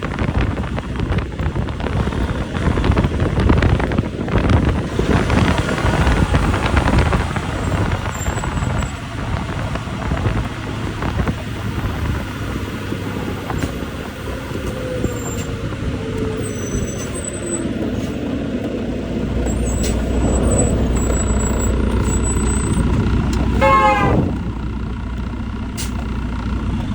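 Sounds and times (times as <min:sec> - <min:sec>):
deep rumble: 0:00.0 - 0:26.9
vehicle road and engine noise: 0:00.0 - 0:26.9.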